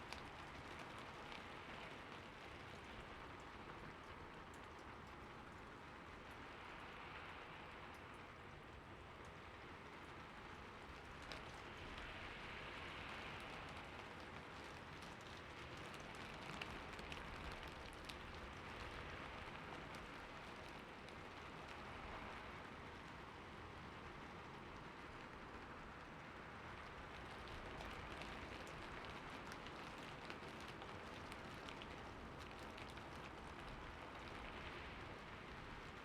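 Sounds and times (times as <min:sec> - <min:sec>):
faint raindrop ticks: 0:00.0 - 0:36.0
steady rain hiss: 0:00.0 - 0:36.0.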